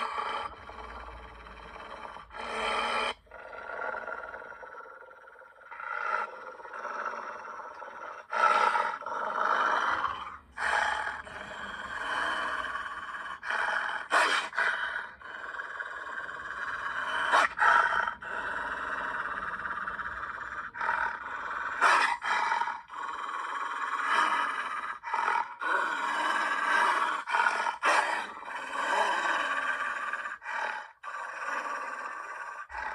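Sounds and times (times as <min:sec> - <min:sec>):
cartoon wolf growls and roars: 0:00.0 - 0:32.9.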